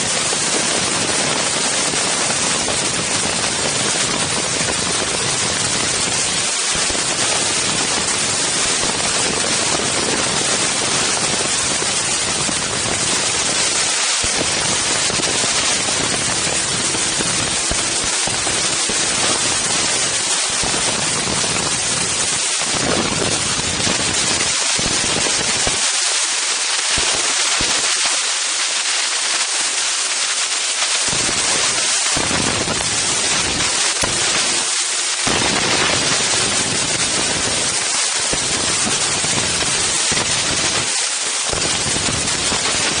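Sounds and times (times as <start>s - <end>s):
wind buffeting microphone: 0.0s - 25.9s, 31.1s - 40.9s.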